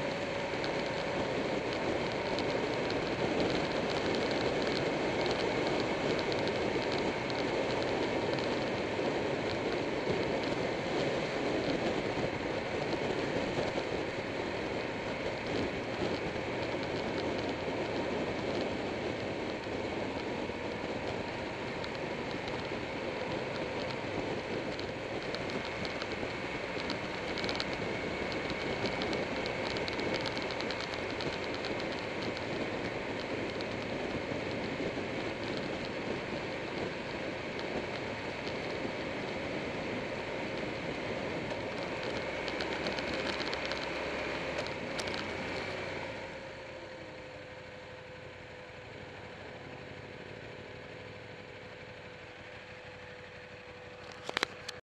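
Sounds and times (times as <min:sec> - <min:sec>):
motorcycle road noise: 0:00.0 - 0:54.8.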